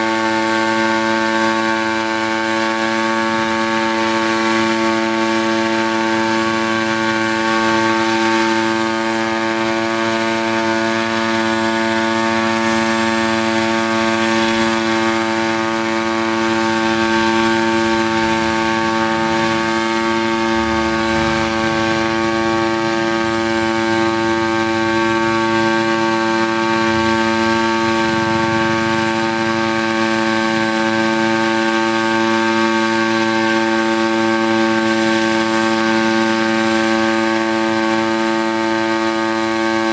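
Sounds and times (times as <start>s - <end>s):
multicopter engine and propellers droning: 0.0s - 39.9s.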